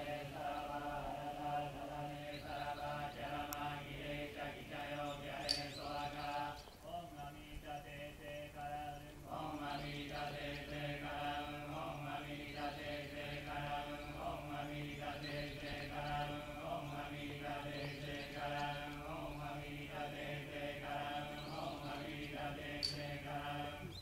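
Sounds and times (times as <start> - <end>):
monks chanting in unison: 0.0 - 24.0.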